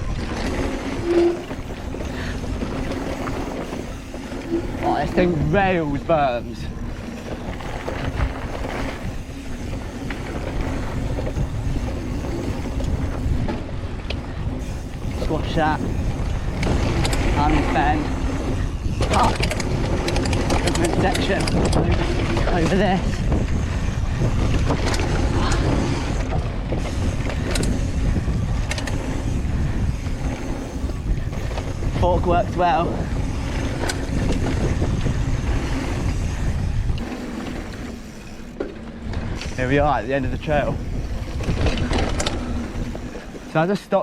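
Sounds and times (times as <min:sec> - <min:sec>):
bike clicks and rattles: 0:00.0 - 0:44.0
tyres rumbling on dirt: 0:00.0 - 0:44.0
wind buffeting microphone: 0:00.0 - 0:44.0.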